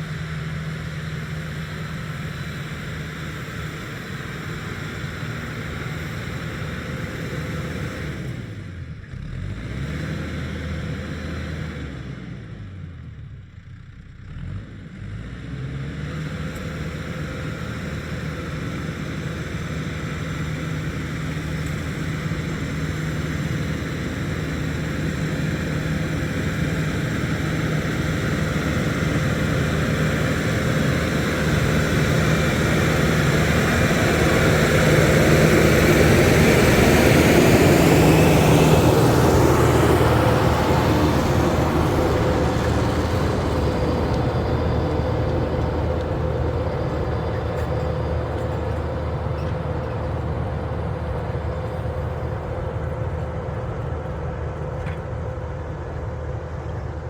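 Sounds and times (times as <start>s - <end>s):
tractor engine running: 0.0s - 12.0s, 16.1s - 57.0s.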